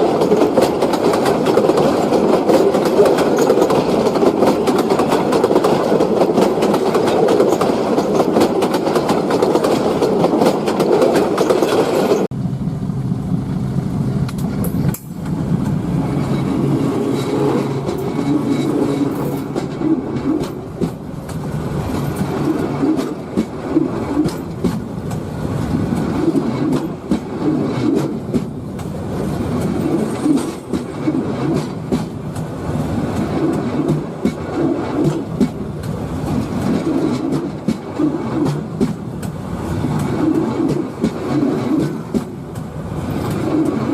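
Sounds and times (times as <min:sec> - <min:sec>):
quiet clickety-clack: 0:00.0 - 0:12.3, 0:17.6 - 0:43.9
train wheels clattering on track: 0:00.0 - 0:12.3, 0:14.2 - 0:43.9.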